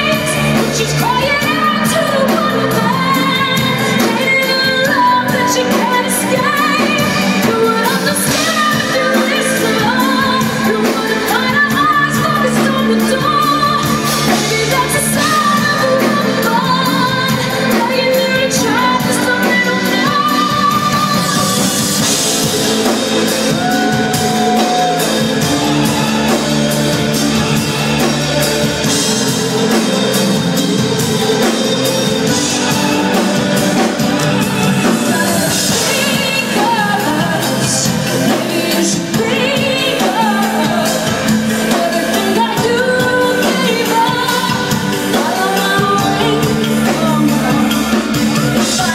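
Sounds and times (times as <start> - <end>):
live pop band: 0.0 - 48.9
woman singing with vibrato: 0.0 - 48.9.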